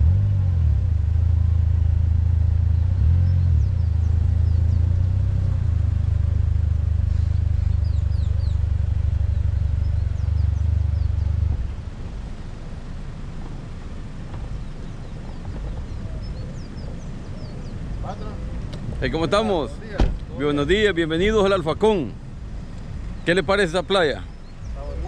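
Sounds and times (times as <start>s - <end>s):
car engine running: 0.0s - 25.0s
birds chirping: 2.6s - 25.0s.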